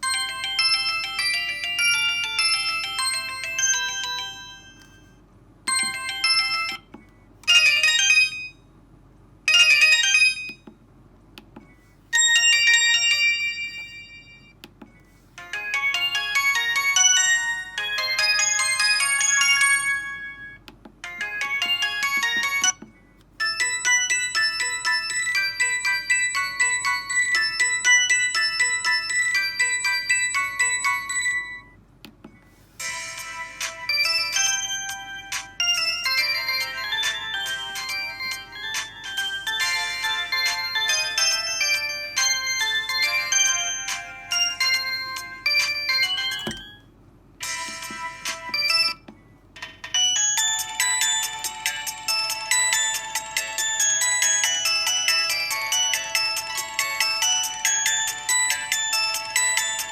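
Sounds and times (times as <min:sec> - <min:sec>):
phone ringtone chime melodies: 0:00.0 - 0:06.9, 0:07.5 - 0:08.7, 0:09.5 - 0:10.6, 0:12.2 - 0:14.6, 0:15.4 - 0:22.8, 0:23.4 - 0:31.8, 0:32.8 - 0:49.0, 0:50.0 - 0:59.9.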